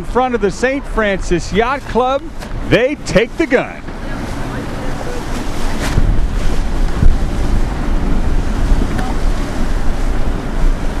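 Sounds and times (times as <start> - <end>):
water splashes: 0.0 - 11.0
waves and rushing water: 0.0 - 11.0
wind buffeting microphone: 0.0 - 11.0.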